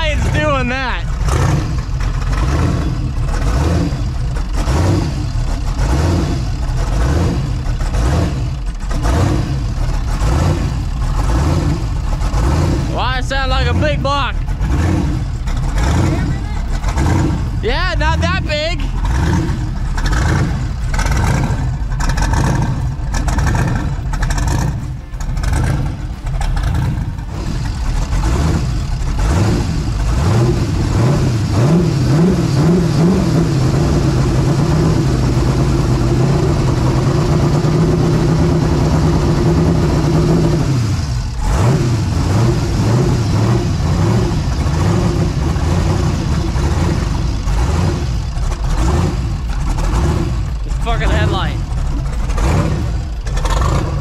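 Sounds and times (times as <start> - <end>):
engine idling and revving: 0.0 - 54.0.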